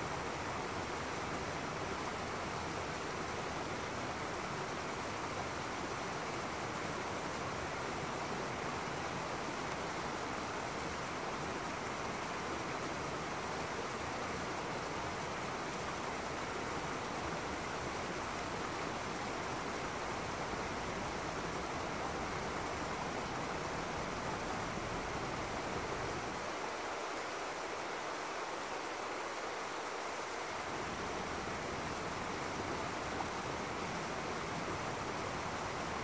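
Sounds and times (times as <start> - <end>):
stream running over rocks: 0.0 - 36.0.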